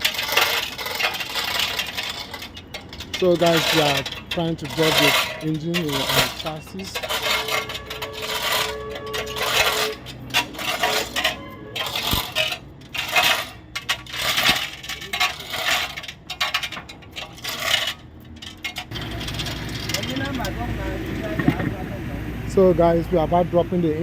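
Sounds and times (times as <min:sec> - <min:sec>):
hoist chain clinking and rattling: 0:00.0 - 0:21.7.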